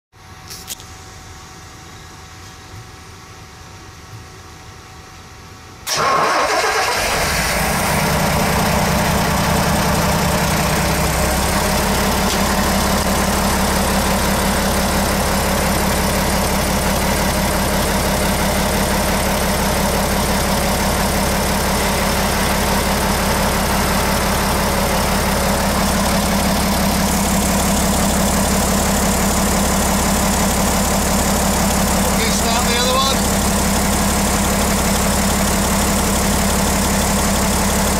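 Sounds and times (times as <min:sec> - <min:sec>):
diesel engines idling: 0:05.9 - 0:37.9.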